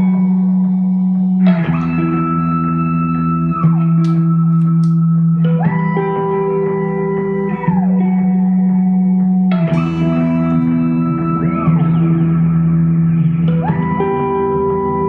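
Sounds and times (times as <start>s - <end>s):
electric guitar drones: 0.0s - 15.0s
sliding high guitar tones: 0.0s - 15.0s.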